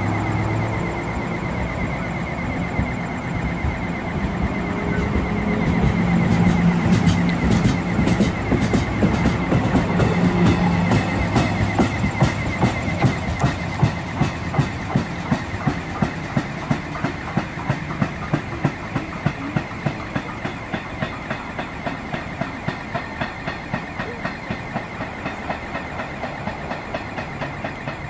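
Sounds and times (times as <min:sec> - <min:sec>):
train wheels clicking over rail joints: 0:00.0 - 0:28.0.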